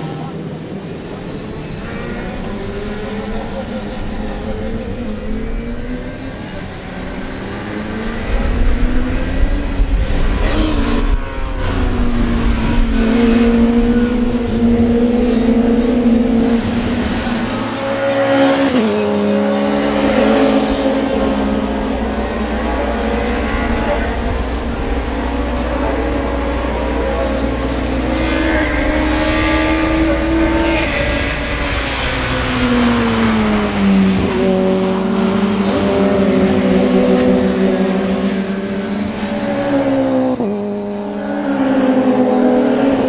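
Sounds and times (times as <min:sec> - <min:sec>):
race car engines revving: 0:00.0 - 0:43.0
race car passing by: 0:00.0 - 0:43.0.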